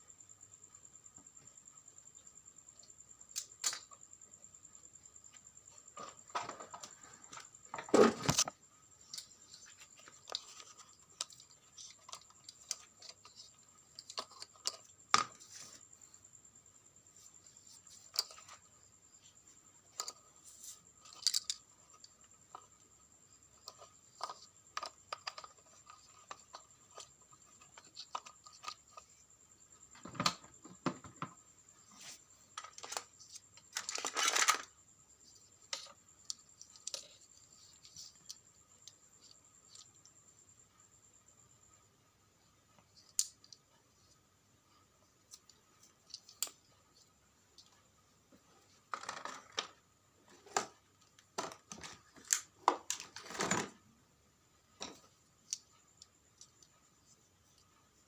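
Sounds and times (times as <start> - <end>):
small parts and tools handled: 2.8 - 4.1, 5.2 - 16.2, 17.2 - 40.2, 45.2 - 53.8, 54.7 - 58.0.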